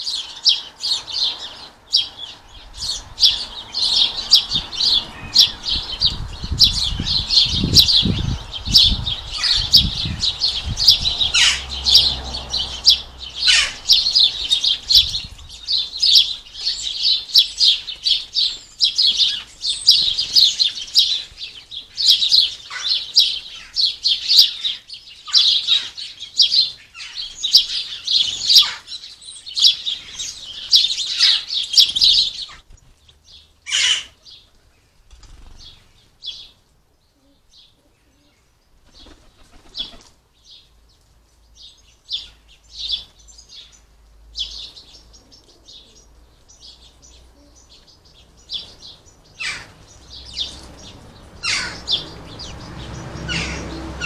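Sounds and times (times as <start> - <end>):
small birds twittering and chirping: 0.0 - 54.0.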